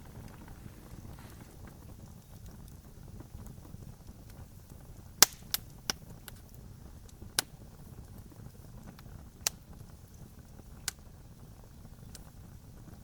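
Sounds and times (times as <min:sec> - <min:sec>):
burning wood popping: 0:00.0 - 0:13.0
fire rumbling: 0:00.0 - 0:13.0.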